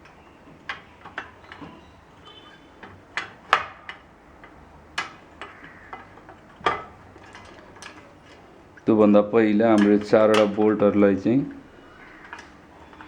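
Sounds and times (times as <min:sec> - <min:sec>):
bolts clicking and tapping: 0:00.0 - 0:13.0.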